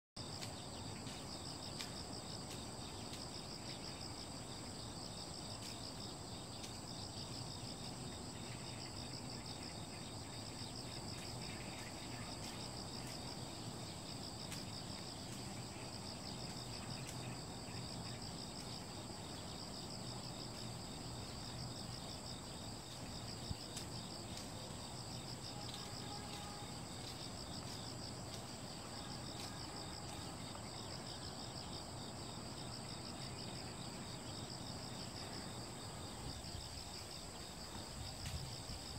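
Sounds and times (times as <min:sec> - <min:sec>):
insects chirring: 0:00.2 - 0:38.9.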